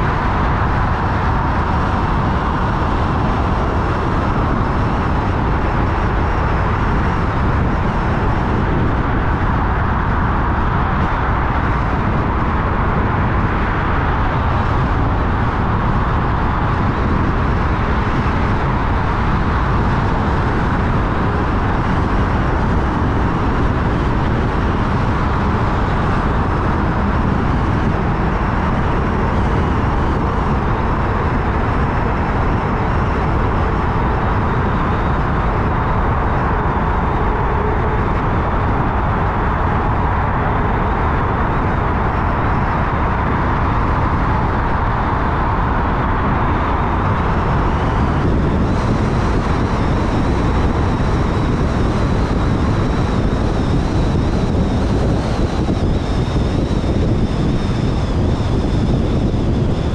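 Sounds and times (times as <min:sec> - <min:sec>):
car road and tyre noise: 0:00.0 - 0:59.9.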